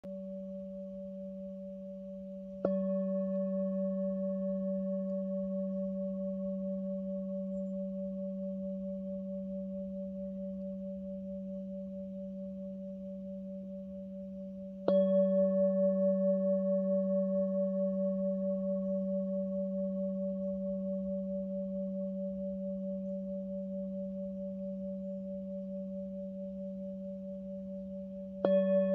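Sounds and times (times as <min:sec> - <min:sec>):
singing bowl ringing: 0:00.0 - 0:28.9.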